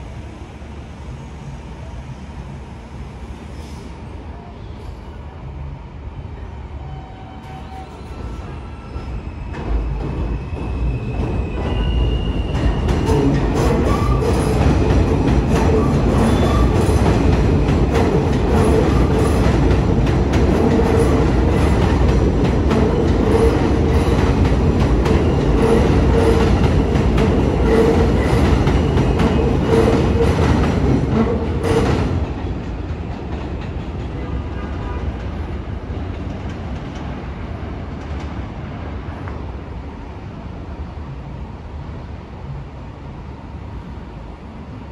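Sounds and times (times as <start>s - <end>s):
steady train tone: 0.0s - 44.9s
subway train wheels clacking: 0.0s - 44.9s.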